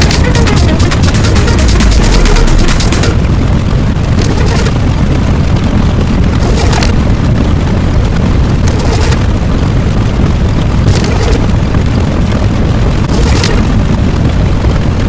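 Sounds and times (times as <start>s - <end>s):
deep explosion-like rumble: 0.0s - 15.0s.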